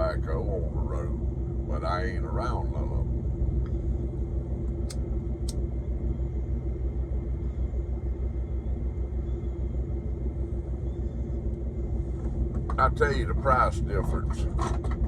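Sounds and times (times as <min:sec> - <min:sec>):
diesel truck engine idling: 0:00.0 - 0:14.6.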